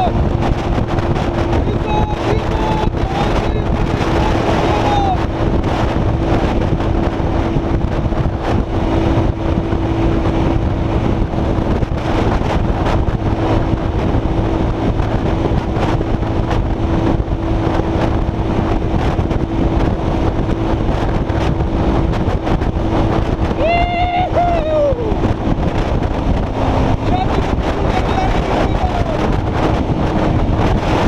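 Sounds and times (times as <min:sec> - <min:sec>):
motorcycle engine cruising: 0:00.0 - 0:31.0
wind buffeting microphone: 0:00.0 - 0:31.0.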